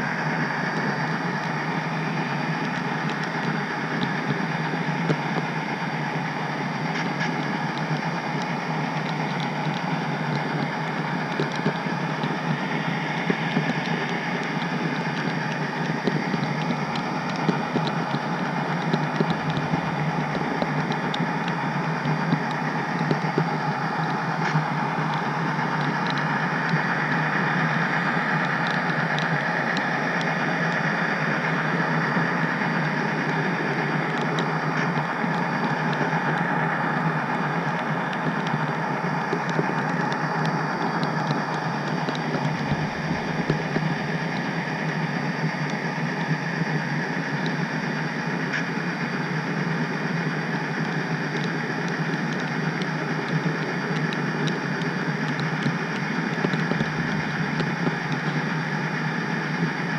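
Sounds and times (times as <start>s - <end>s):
model train wheels rumbling: 0.0s - 59.9s
faint clicks: 0.3s - 59.9s.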